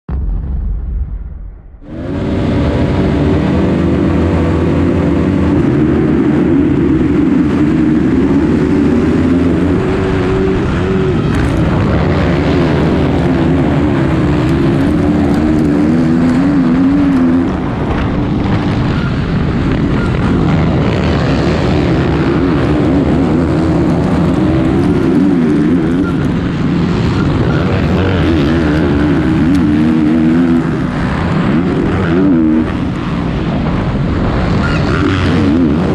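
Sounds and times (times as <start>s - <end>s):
motocross bike engine revving: 1.8s - 35.9s.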